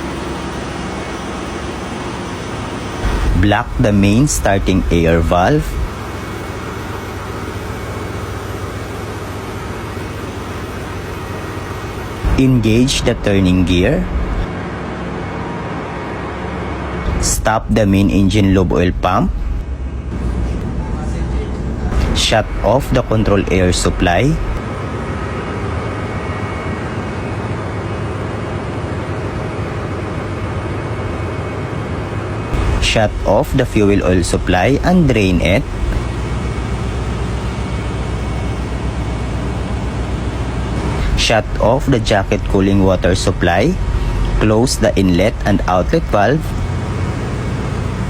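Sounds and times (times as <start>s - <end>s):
engine room machinery hum: 0.0s - 48.0s.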